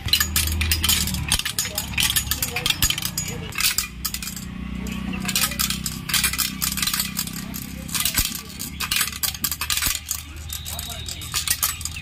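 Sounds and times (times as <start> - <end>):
loose object rattling in metal: 0.0 - 12.0.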